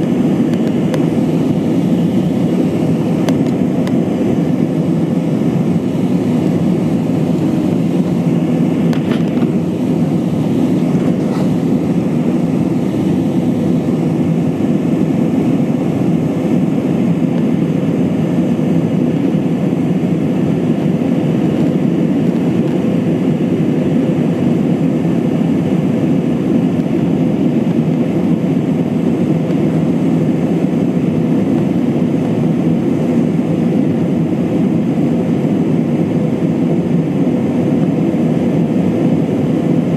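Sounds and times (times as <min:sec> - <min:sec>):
airplane cabin engine drone: 0:00.0 - 0:39.9
steady hum: 0:00.0 - 0:39.9.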